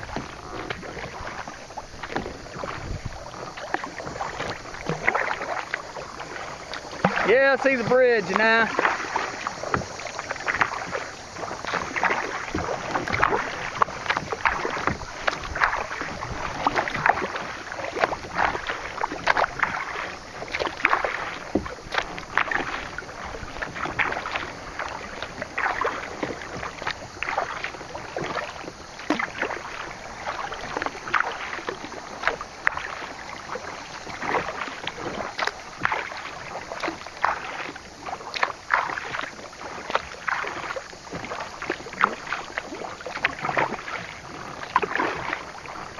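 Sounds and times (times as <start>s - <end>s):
paddle splashing in water: 0.0s - 45.9s.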